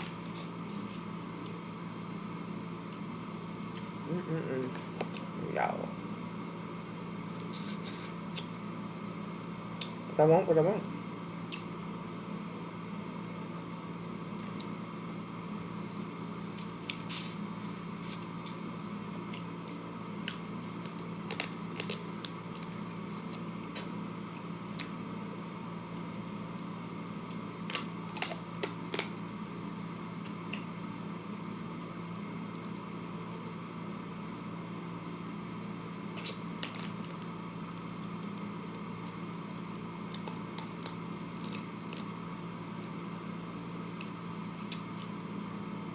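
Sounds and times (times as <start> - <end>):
steady background hum: 0.0 - 45.9.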